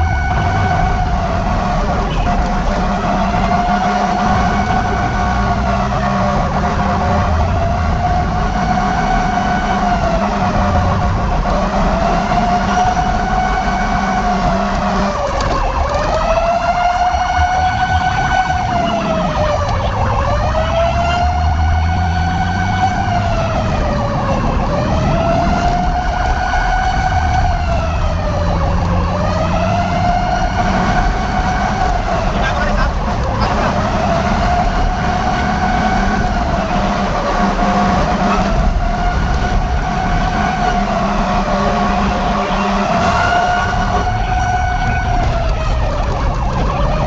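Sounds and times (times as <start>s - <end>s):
engine rumble: 0.0s - 47.0s
fire truck siren wailing: 0.0s - 47.0s.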